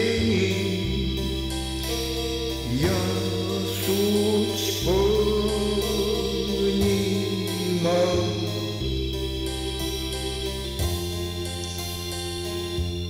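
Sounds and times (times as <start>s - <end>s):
slow background music: 0.0s - 13.0s.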